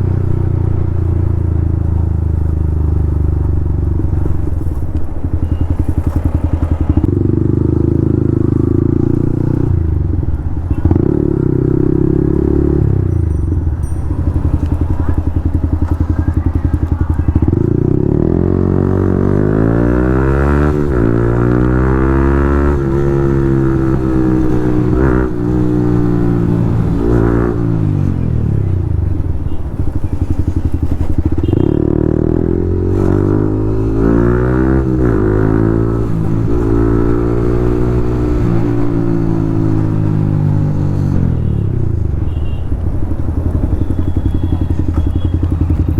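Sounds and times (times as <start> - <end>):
motorcycle engine revving through gears: 0.0 - 29.2, 29.8 - 45.9.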